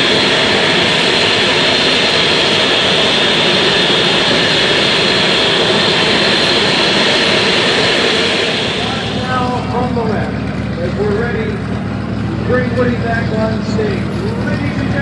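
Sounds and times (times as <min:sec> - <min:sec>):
jet engine running: 0:00.0 - 0:15.0.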